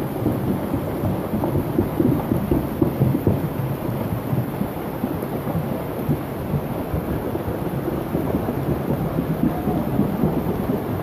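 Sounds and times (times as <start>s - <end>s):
heavy rain rushing: 0.0s - 11.0s.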